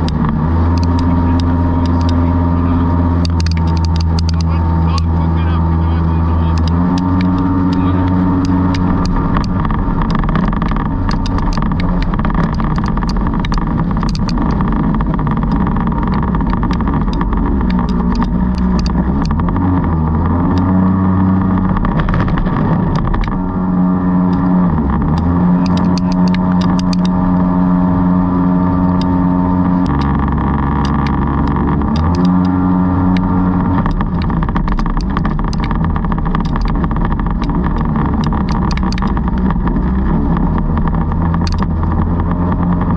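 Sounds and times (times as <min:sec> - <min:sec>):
sharp clicks: 0:00.0 - 0:05.3, 0:06.4 - 0:23.5, 0:24.2 - 0:27.4, 0:28.8 - 0:42.9
jet boat engine running: 0:00.0 - 0:42.9.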